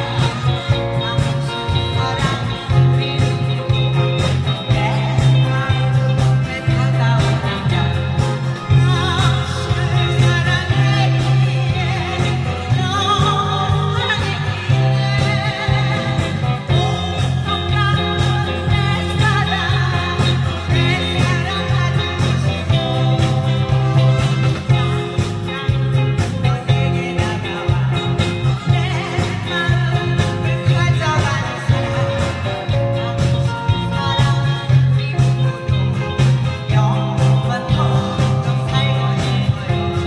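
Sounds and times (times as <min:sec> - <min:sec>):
guitar: 0:00.0 - 0:40.0
person singing with vibrato: 0:00.0 - 0:40.0
pulsing bass beat: 0:00.0 - 0:40.0.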